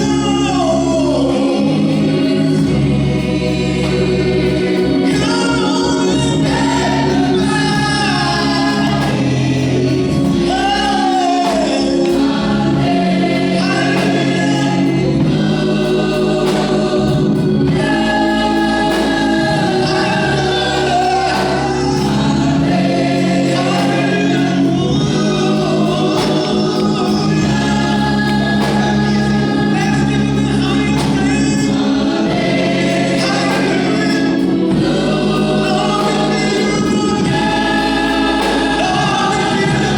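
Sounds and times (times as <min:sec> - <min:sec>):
gospel choir singing: 0:00.0 - 0:39.9
instrumental accompaniment: 0:00.0 - 0:39.9.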